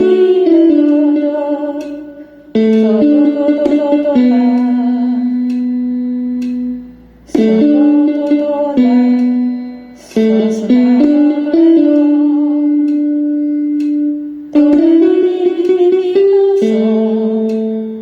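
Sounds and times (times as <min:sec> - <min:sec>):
woman singing slow melody: 0:00.0 - 0:18.0.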